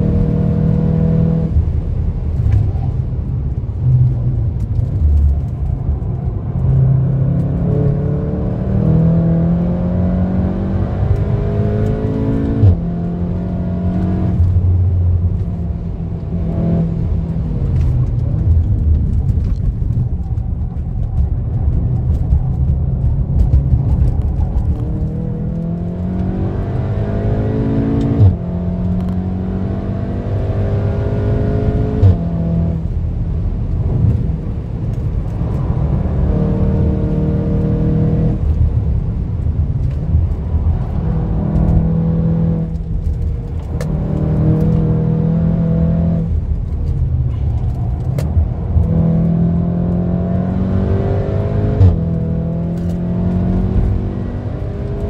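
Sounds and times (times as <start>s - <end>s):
car engine accelerating hard: 0.0s - 2.8s, 3.8s - 55.0s.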